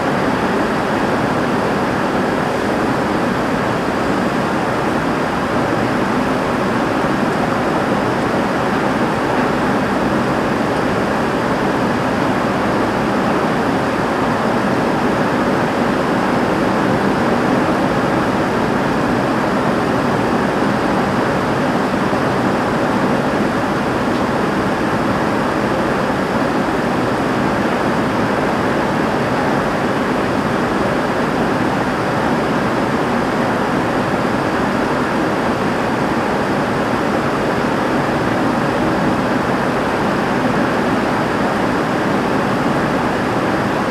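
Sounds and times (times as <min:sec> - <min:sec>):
heavy rain on a roof: 0:00.0 - 0:43.9.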